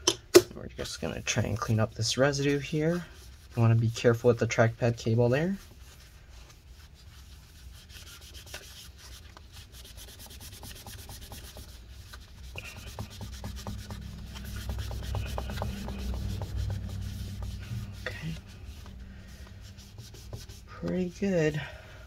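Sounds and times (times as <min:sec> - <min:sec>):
paper towel scrubbing scratchy rubbing: 0:00.8 - 0:21.7.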